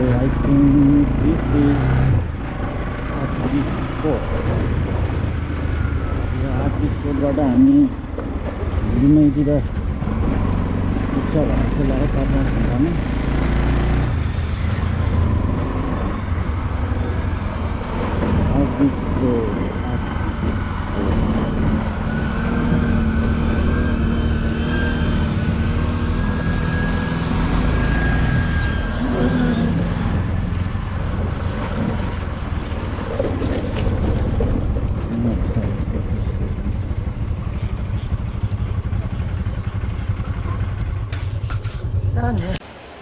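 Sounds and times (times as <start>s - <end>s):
road noise: 0.0s - 43.0s
vehicle engine rumbling: 0.0s - 43.0s.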